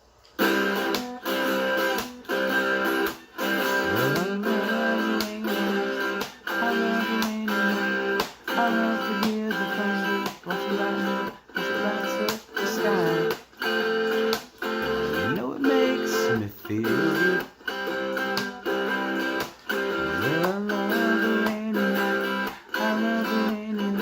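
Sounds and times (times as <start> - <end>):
country-pop guitar instrumental: 0.3 - 24.0.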